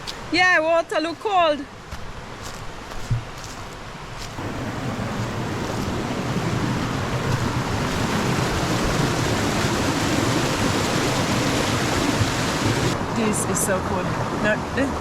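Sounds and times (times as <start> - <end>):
river rushing over rocks: 1.7 - 14.4.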